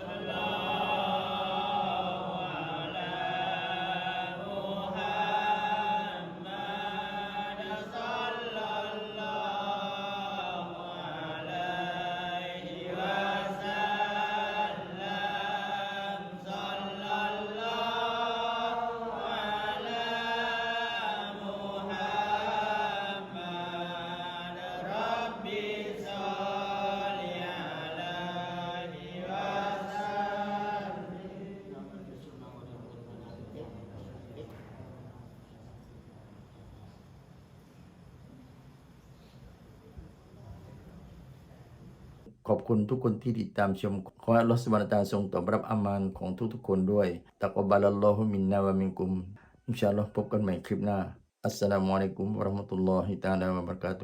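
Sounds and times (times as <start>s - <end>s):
person chanting recitation: 0.0s - 34.8s, 42.3s - 54.0s
steady low hum: 0.0s - 54.0s.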